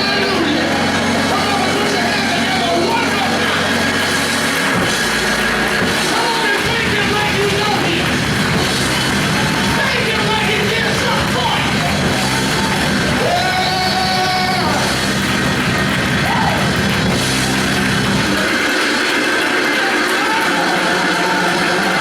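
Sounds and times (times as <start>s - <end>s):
low bass notes: 0.0s - 19.2s.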